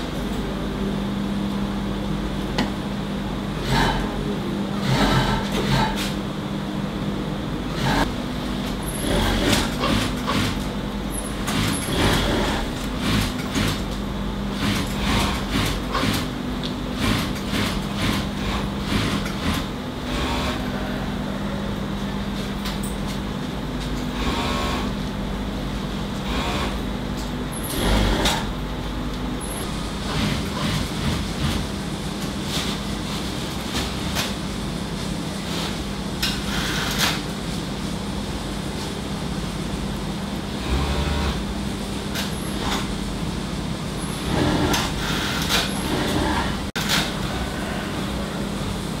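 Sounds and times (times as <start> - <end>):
machinery hum with high whine: 0.0 - 49.0.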